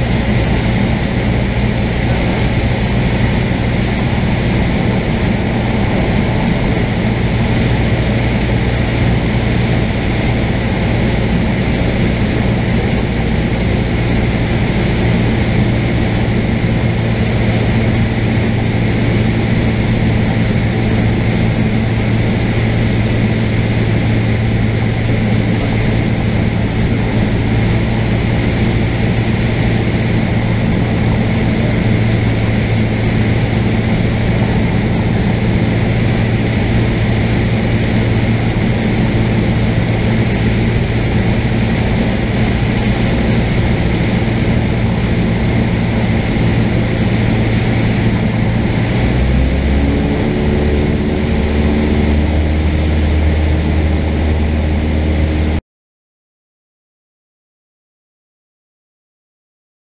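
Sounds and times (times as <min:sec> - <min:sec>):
propeller plane engine drone: 0:00.0 - 0:55.6.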